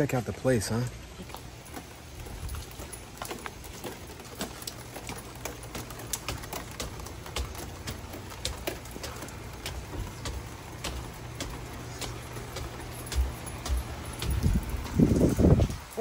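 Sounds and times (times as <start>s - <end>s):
footsteps on wooden stairs: 1.1s - 16.0s.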